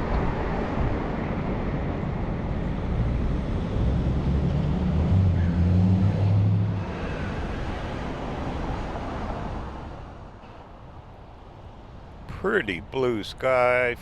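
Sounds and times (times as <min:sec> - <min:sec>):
low engine hum: 0:00.0 - 0:14.0
vehicle road noise: 0:00.0 - 0:14.0.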